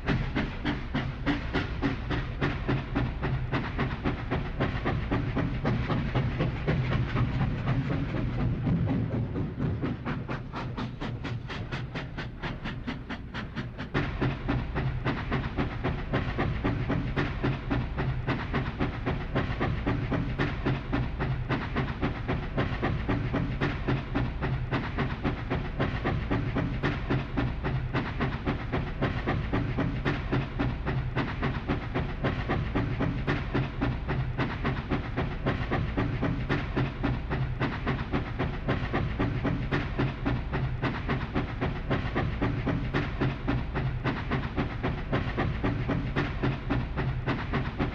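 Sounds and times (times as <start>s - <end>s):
rail clatter: 0.0s - 47.9s
steam locomotive chuffing: 0.0s - 47.9s.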